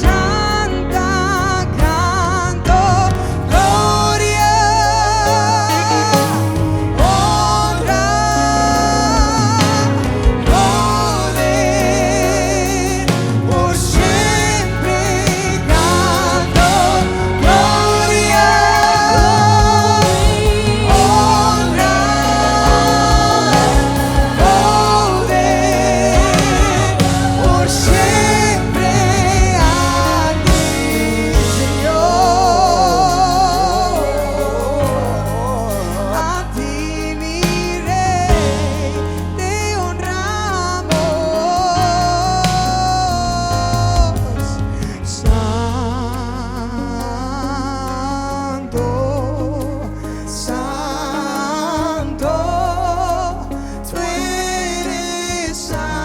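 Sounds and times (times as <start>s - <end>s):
band playing worship music: 0.0s - 56.0s
person singing with vibrato: 0.0s - 56.0s.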